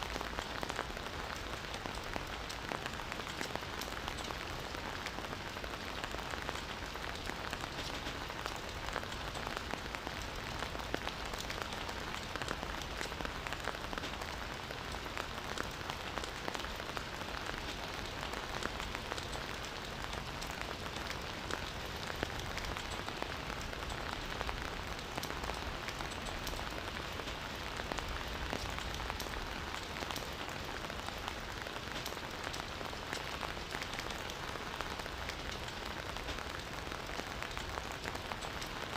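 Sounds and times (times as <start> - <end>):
raindrops pattering: 0.0 - 38.9
steady rain falling: 0.0 - 38.9.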